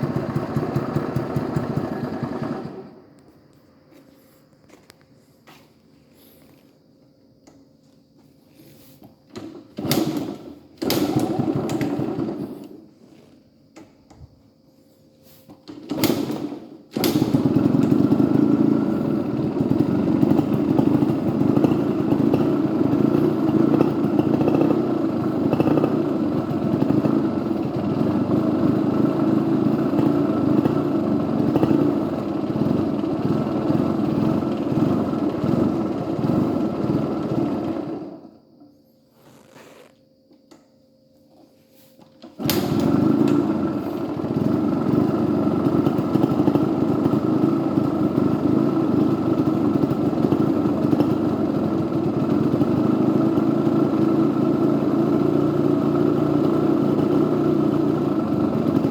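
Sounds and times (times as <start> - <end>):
two-stroke engine starting: 0.0 - 3.3, 8.6 - 14.4, 15.2 - 40.7, 41.8 - 58.9.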